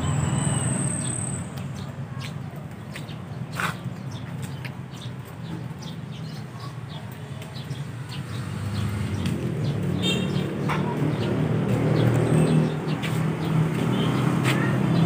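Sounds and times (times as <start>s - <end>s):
small birds chirping: 0.5s - 15.0s.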